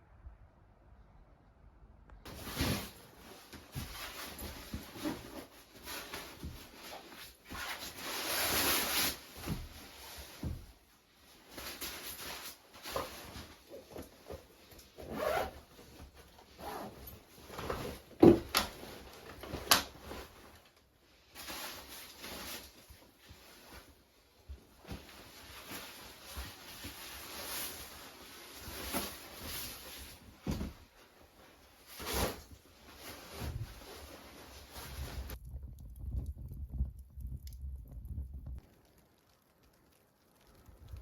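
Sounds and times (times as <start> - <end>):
rustling and scraping of handled objects: 2.3 - 35.5.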